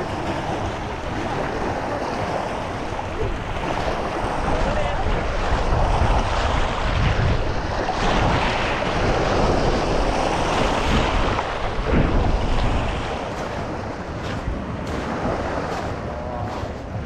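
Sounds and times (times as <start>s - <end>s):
sea surf washing onto beach: 0.0s - 17.0s
wind buffeting microphone: 0.0s - 17.0s.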